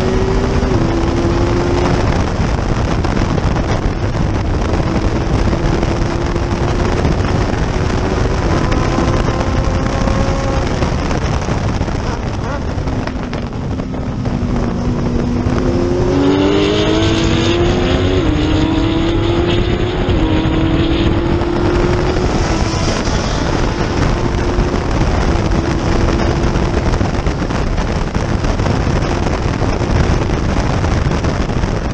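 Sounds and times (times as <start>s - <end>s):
road noise: 0.0s - 31.9s
wind noise: 0.0s - 31.9s.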